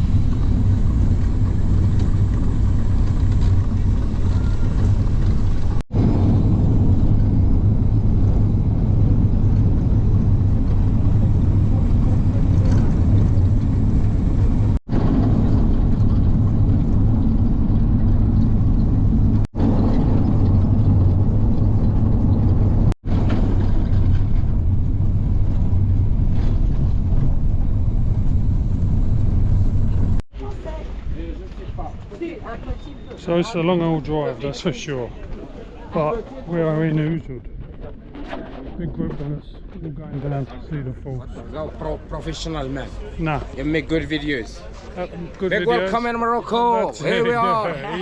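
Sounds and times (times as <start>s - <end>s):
road noise: 0.0s - 38.4s, 39.1s - 48.0s
bus engine rumble: 0.0s - 48.0s.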